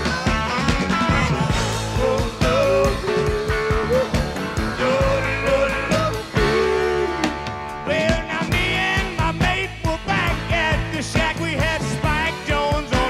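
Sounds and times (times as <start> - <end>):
up-tempo instrumental band music: 0.0 - 13.0.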